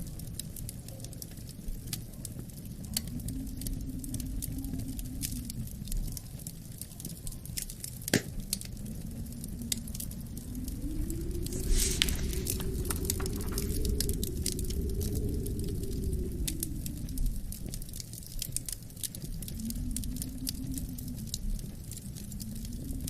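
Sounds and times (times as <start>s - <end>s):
low wind: 0.0s - 23.0s
wood fire crackling and popping: 0.0s - 23.0s.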